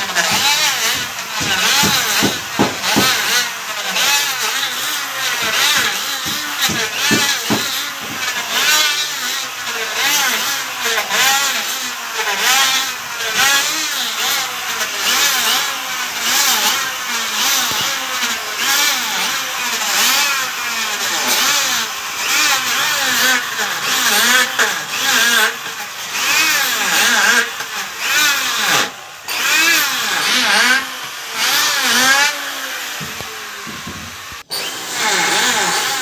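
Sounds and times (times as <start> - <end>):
wood-planing machine cutting: 0.0 - 36.0.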